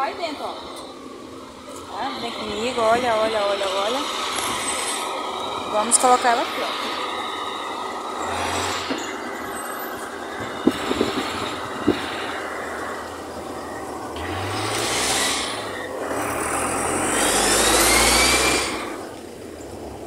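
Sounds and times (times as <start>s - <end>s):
rising whine: 0.0s - 20.0s
road vehicles passing: 0.0s - 20.0s.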